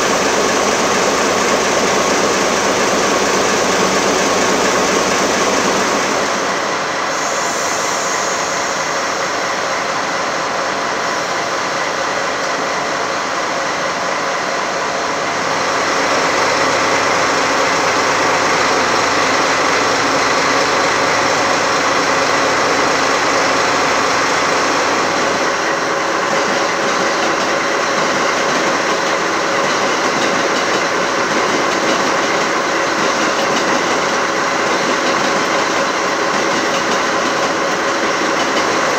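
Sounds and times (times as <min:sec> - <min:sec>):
diesel locomotive engine rumble: 0:00.0 - 0:38.9.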